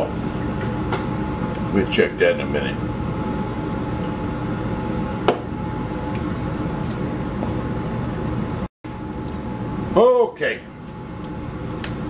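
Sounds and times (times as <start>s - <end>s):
mechanical room hum: 0.0s - 12.0s.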